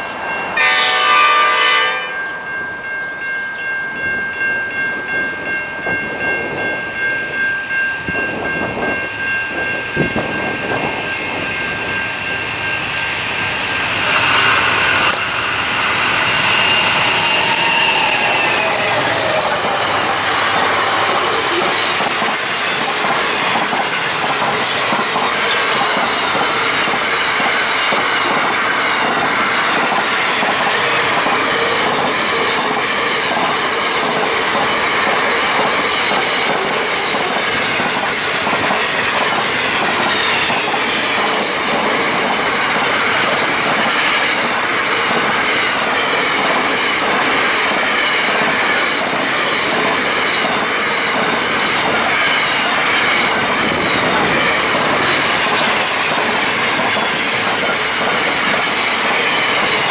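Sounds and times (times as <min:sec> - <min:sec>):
freight train rolling rumble: 0:02.5 - 0:59.9.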